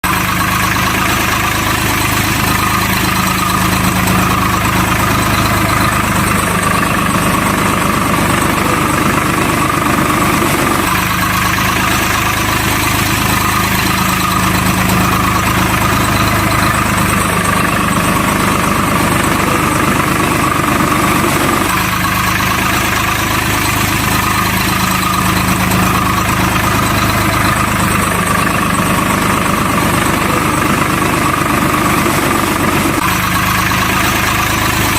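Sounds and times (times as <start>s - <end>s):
truck engine idling: 0.0s - 34.9s.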